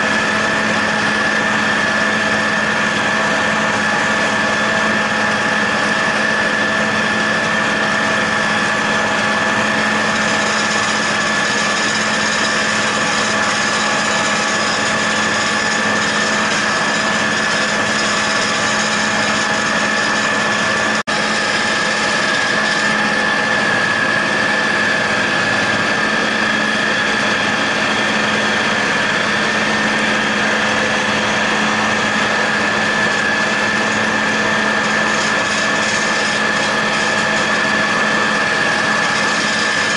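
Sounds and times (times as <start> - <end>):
mower high whine: 0.0 - 39.9
tractor engine drone: 0.0 - 39.9.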